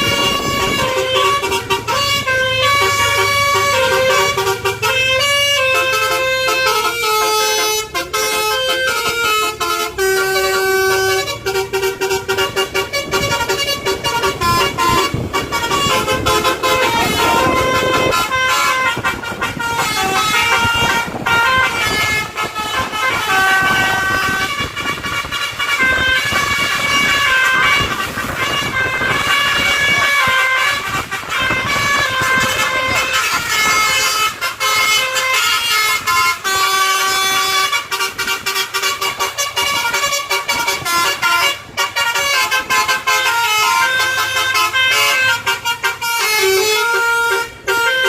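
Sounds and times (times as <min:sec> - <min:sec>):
multi-tone horn playing a tune: 0:00.0 - 0:48.0.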